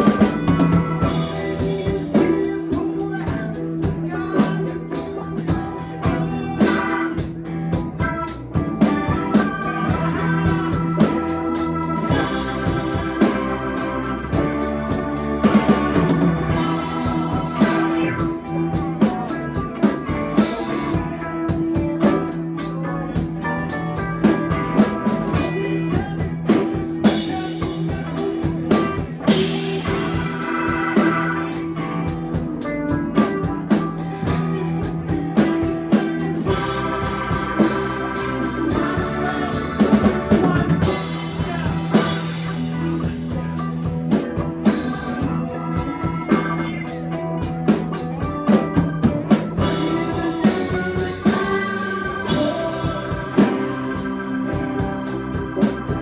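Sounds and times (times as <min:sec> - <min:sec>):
drum kit beat: 0:00.0 - 0:56.0
electric guitar: 0:00.0 - 0:56.0
organ chords: 0:00.0 - 0:56.0.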